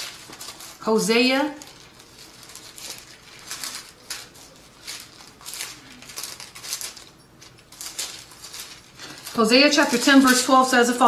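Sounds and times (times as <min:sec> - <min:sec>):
paper crinkling: 0:00.0 - 0:11.0.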